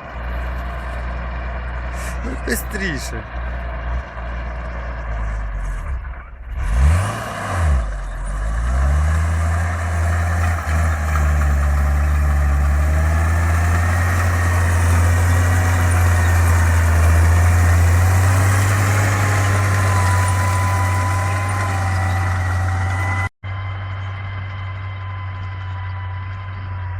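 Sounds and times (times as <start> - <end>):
diesel tractor engine revving: 0.0 - 26.9.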